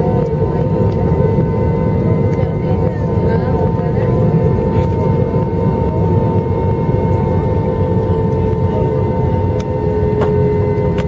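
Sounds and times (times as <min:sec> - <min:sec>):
high engine whine: 0:00.0 - 0:11.0
jet engines idling: 0:00.0 - 0:11.0.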